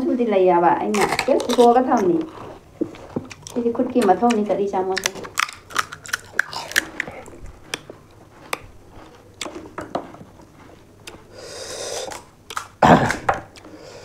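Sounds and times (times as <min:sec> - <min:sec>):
crisp shells cracking and crunching: 0:00.8 - 0:11.3, 0:11.9 - 0:13.6
chewing: 0:00.9 - 0:14.0.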